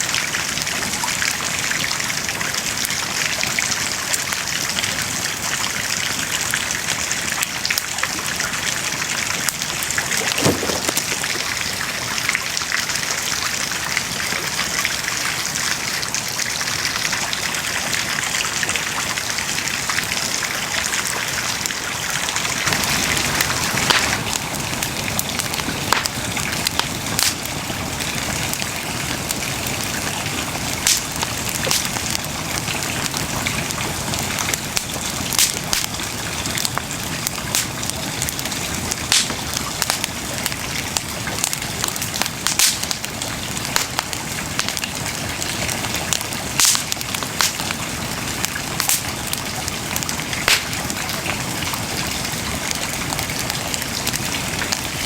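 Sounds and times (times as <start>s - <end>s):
bonfire hissing: 0.0s - 55.0s
fire crackling and popping: 0.0s - 55.0s.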